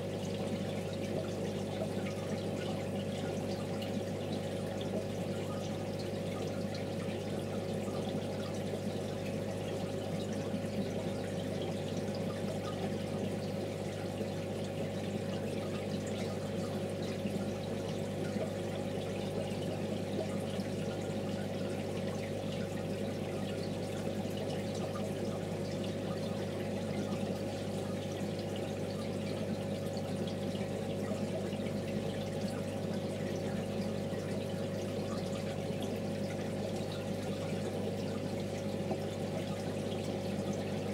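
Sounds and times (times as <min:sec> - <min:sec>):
aquarium water trickling: 0:00.0 - 0:40.9.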